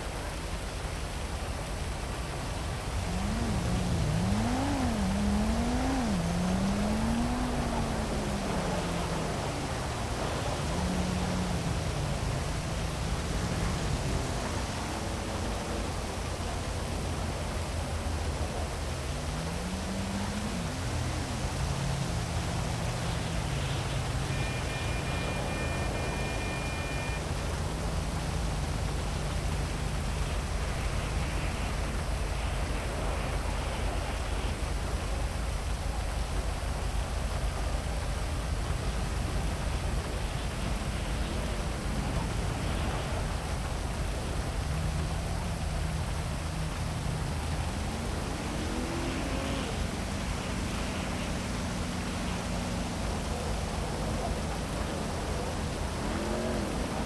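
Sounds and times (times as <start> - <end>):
heavy rain falling: 0.0 - 57.0
vehicle engines passing: 0.0 - 57.0.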